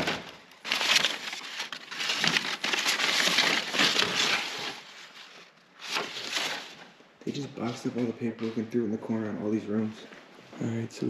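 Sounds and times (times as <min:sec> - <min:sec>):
paper rustling and crinkling: 0:00.0 - 0:09.9.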